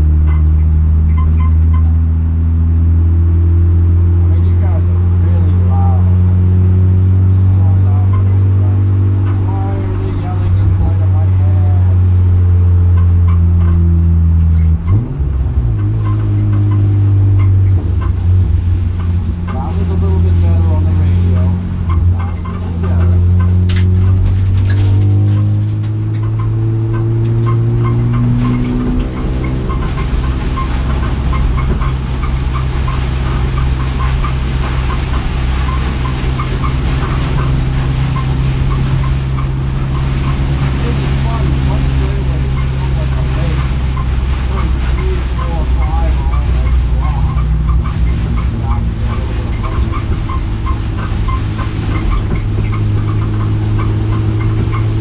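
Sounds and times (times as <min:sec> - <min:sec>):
race car engine droning: 0:00.0 - 0:55.0.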